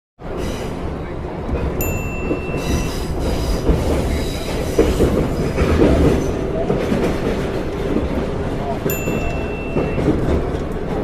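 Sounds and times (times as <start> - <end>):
subway train rumbling: 0.2 - 11.0.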